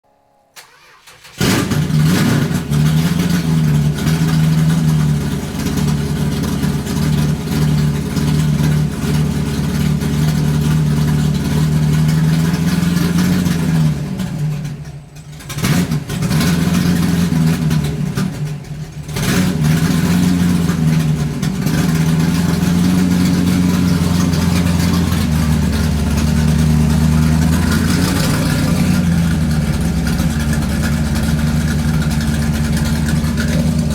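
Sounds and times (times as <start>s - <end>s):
car engine revving: 0.6s - 33.9s.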